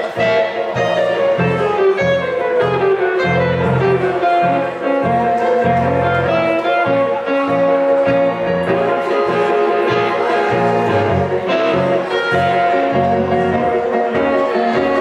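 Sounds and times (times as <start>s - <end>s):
electric guitar blues melody: 0.0s - 15.0s
electric keyboard: 0.0s - 15.0s
low bass notes: 0.0s - 15.0s.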